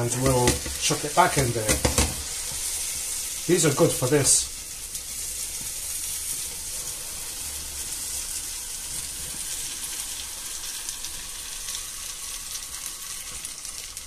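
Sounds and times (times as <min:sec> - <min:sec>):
omelette sizzling in hot oil: 0:00.0 - 0:14.0.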